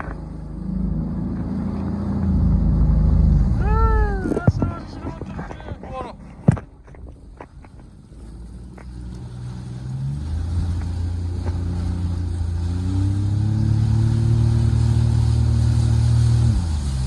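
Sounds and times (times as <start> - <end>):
jet ski engine speeding up: 0.0 - 4.8, 7.9 - 17.0.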